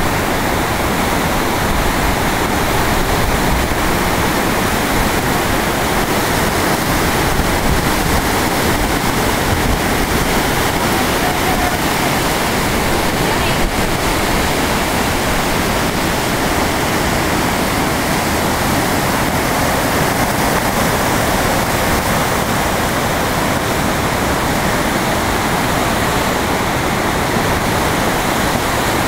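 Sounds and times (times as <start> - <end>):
rushing whitewater rapids: 0.0 - 29.0.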